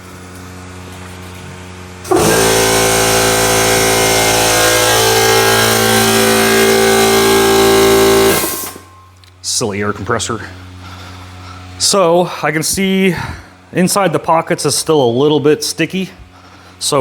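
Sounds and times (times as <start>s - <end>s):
air compressor running: 0.0s - 9.3s, 9.9s - 13.7s, 16.0s - 17.0s.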